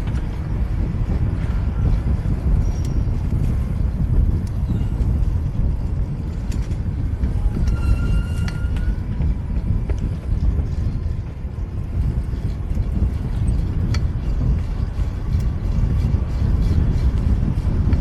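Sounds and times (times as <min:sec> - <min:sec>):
bike road noise rumble: 0:00.0 - 0:18.0
wind on microphone: 0:00.0 - 0:18.0.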